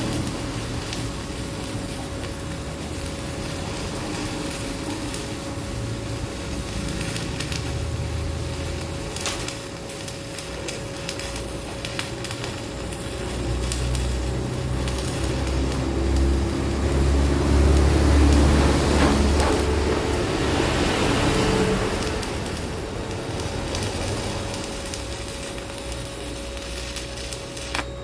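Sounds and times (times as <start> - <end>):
welding arc crackling: 0.0 - 28.0.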